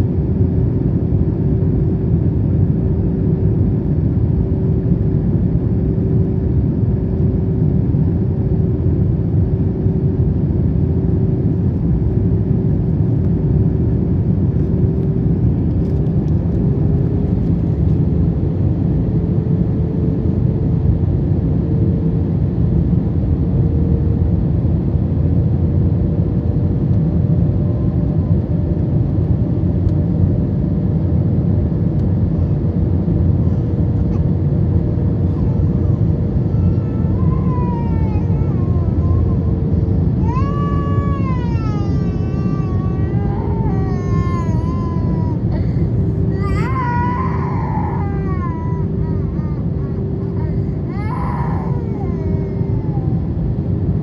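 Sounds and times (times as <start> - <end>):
airliner cabin roar: 0.0 - 54.0
faint hum: 0.0 - 54.0.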